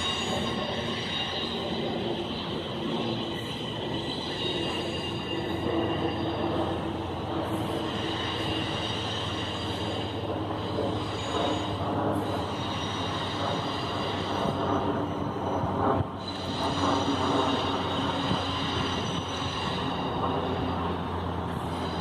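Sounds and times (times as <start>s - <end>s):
high wheel squeal tones: 0.0s - 22.0s
train rumbling on rails: 0.0s - 22.0s.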